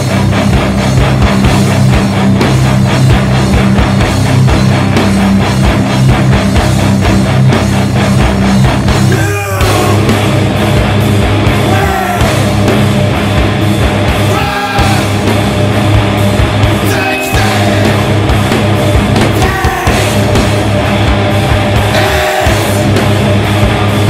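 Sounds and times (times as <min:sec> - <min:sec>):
distorted electric guitars: 0:00.0 - 0:24.0
heavy rock music: 0:00.0 - 0:24.0.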